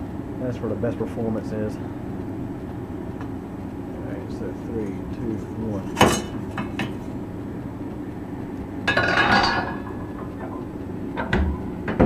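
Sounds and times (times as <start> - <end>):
blower fan hum: 0.0 - 12.0.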